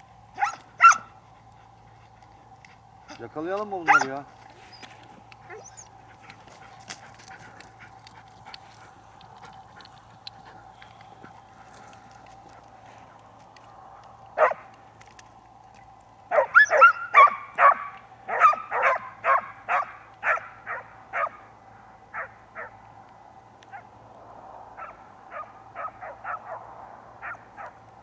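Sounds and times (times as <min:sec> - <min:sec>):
hunting dogs barking: 0:00.1 - 0:15.2, 0:15.8 - 0:22.9, 0:23.6 - 0:24.0, 0:24.7 - 0:28.0.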